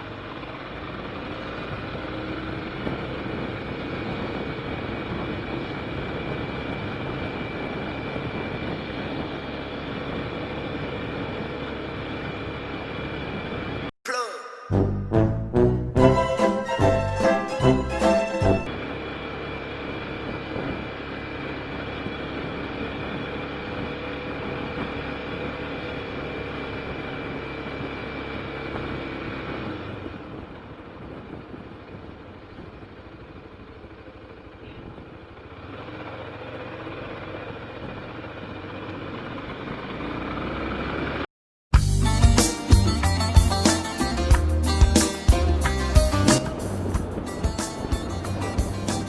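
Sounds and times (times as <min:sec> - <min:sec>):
vehicle running in traffic: 0:00.0 - 0:13.9, 0:16.0 - 0:49.0.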